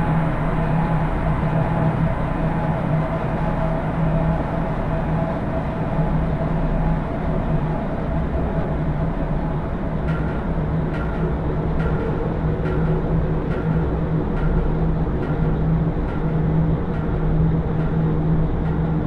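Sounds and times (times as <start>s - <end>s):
dark ambient drone: 0.0s - 19.0s.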